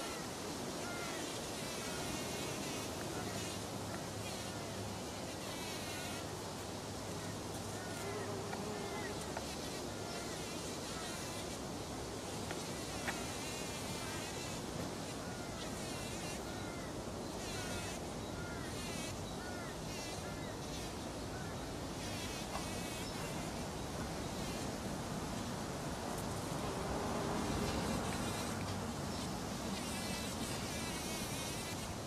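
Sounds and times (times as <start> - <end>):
bumblebee buzzing: 0.0 - 21.0, 21.9 - 24.9, 26.0 - 32.0.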